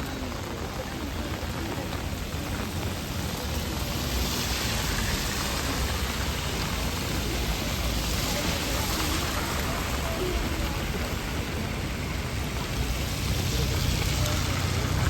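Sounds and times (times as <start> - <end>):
heavy rain on an umbrella: 0.0 - 15.0.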